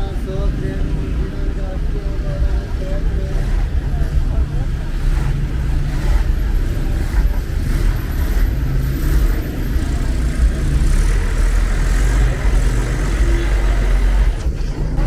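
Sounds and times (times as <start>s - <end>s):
bus engine running: 0.0s - 15.0s
street traffic rumble: 0.0s - 15.0s.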